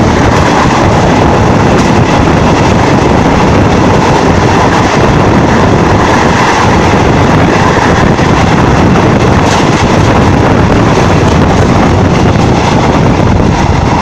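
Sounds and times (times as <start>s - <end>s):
train wheels rumbling on rails: 0.0s - 14.0s
wind buffeting microphone: 0.0s - 14.0s.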